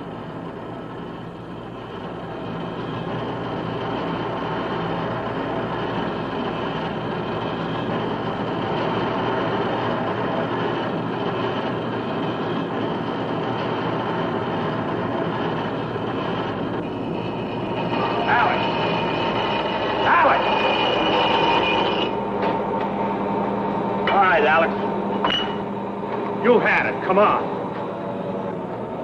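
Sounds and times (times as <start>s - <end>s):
machine rumble and clatter: 0.0s - 29.0s.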